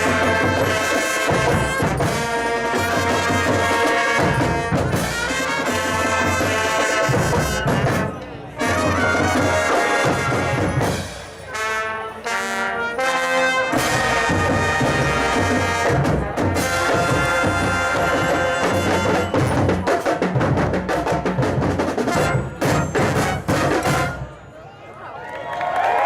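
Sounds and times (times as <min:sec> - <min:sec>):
drums: 0:00.0 - 0:12.0, 0:13.1 - 0:24.5
marching brass band playing: 0:00.0 - 0:24.5.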